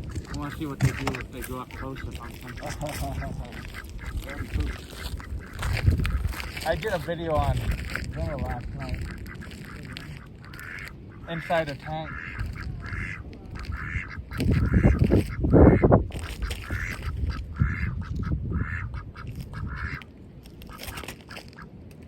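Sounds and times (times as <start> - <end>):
ducks quacking: 0.0 - 21.8.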